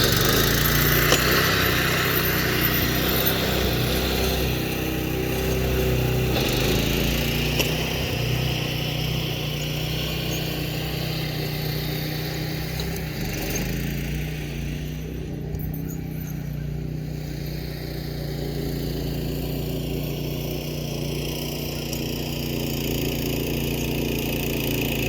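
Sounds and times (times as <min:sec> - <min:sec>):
small tractor engine running: 0:00.0 - 0:25.0.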